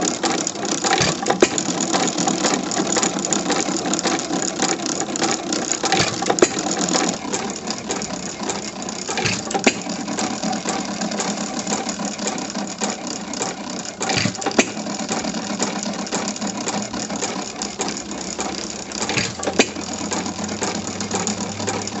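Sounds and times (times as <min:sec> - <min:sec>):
engine gears clattering: 0:00.0 - 0:22.0.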